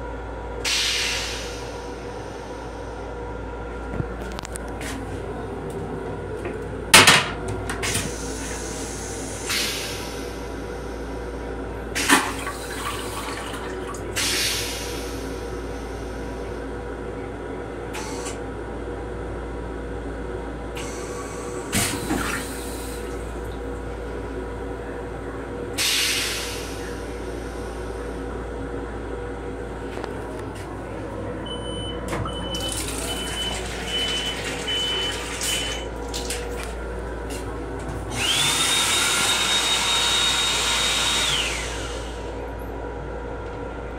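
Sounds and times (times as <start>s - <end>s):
railcar running rumble: 0.0s - 43.9s
toilet flush rushing with whine: 0.6s - 18.5s, 20.6s - 43.9s.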